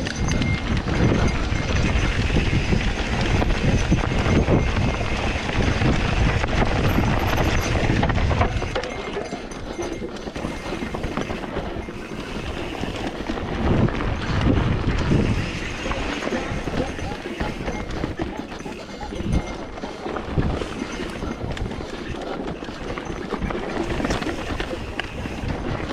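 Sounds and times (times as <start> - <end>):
bike rattling over bumps: 0.0 - 25.9
wind rumble on microphone: 0.0 - 25.9.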